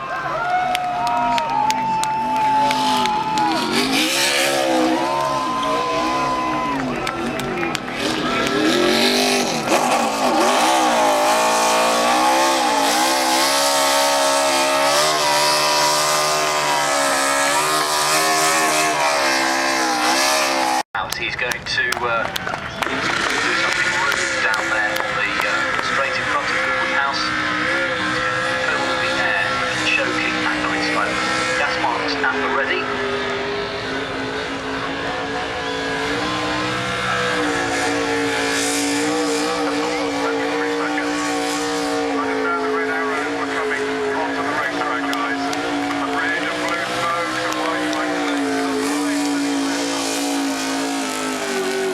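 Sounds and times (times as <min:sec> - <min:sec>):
race car engine at high revs: 0:00.0 - 0:51.9.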